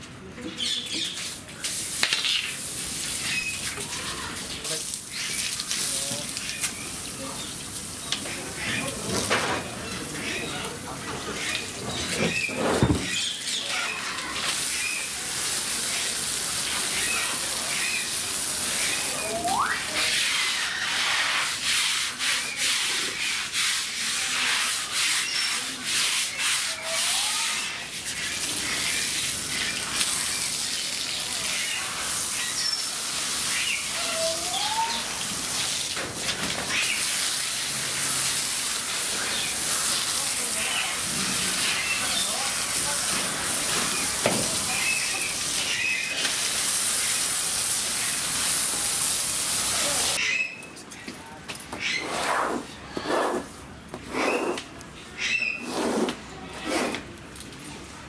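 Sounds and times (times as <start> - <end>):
hose water spraying on concrete: 0.5 - 50.6, 51.5 - 57.6.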